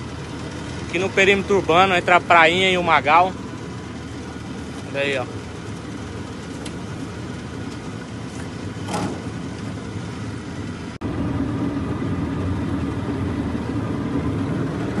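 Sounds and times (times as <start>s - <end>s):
small boat motor running: 0.0s - 15.0s.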